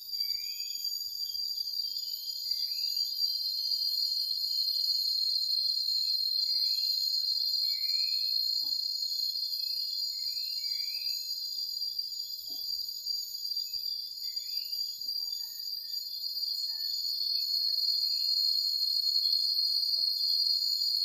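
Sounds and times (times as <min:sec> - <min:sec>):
crickets shrill drone: 0:00.1 - 0:19.6.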